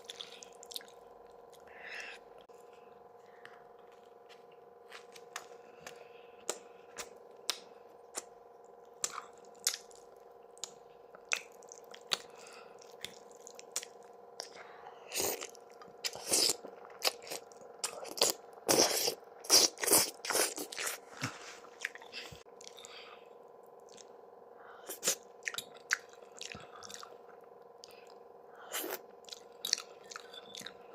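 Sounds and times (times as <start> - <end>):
faint steady hum: 0.0 - 30.9
person chewing food: 0.0 - 30.9.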